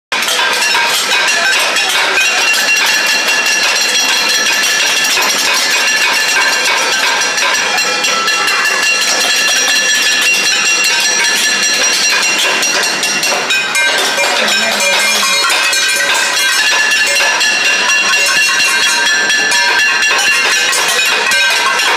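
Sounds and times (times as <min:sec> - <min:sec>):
metal pots and lids beaten: 0:00.1 - 0:21.9.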